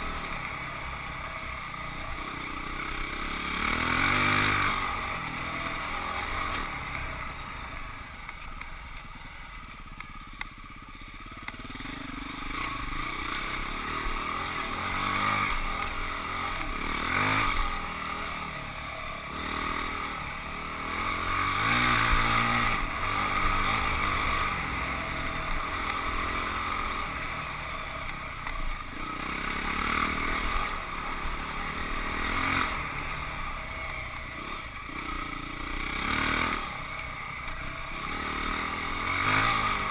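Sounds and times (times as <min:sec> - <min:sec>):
dirt bike engine revving: 0:00.0 - 0:09.7, 0:10.7 - 0:39.9.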